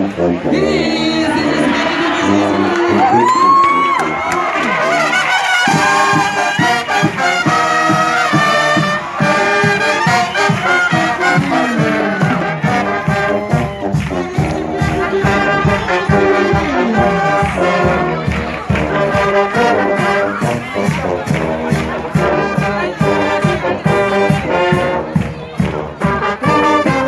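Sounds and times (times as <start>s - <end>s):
trumpets and trombones: 0.0s - 27.0s
steady drum beat: 3.0s - 27.0s.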